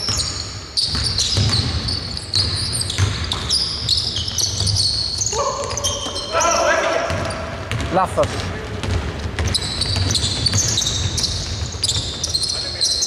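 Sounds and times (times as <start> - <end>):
basketball bouncing: 0.0 - 12.8
sneakers squeaking: 0.0 - 13.0.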